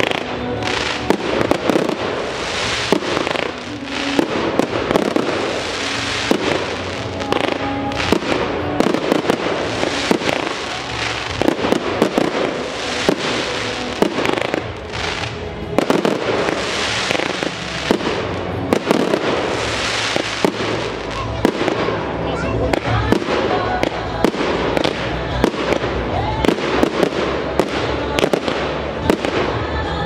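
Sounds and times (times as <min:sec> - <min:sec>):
fireworks bangs and bursts: 0:00.0 - 0:29.9
hiss of burning fireworks: 0:00.0 - 0:30.0.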